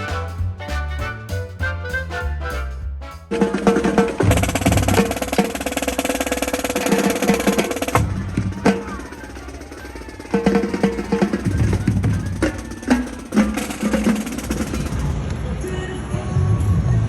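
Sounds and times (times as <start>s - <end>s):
bass drum: 0.0s - 15.1s
snare drum rolls: 0.0s - 15.2s.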